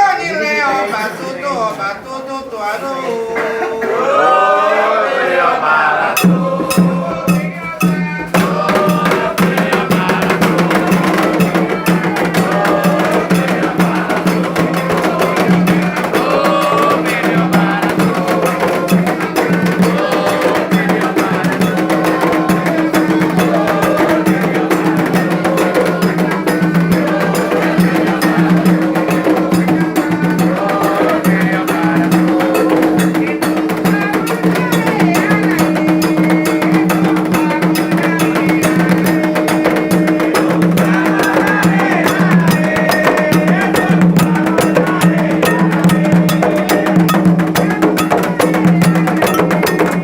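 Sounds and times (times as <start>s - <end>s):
voices singing: 0.0s - 50.0s
steady drumming: 6.0s - 50.0s.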